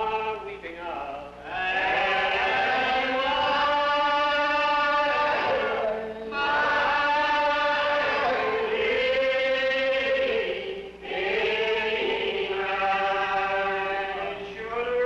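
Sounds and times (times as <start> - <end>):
congregation singing a hymn: 1.4 - 15.0.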